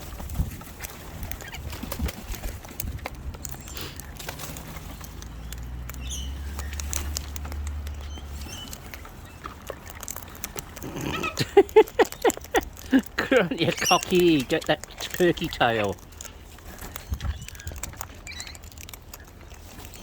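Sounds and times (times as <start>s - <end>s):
birds pecking and scrabbling: 0.0s - 20.0s.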